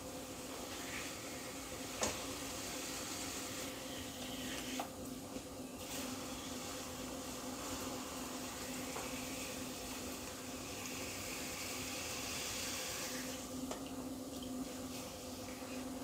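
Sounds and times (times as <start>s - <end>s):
potter's wheel motor humming: 0.0s - 16.0s.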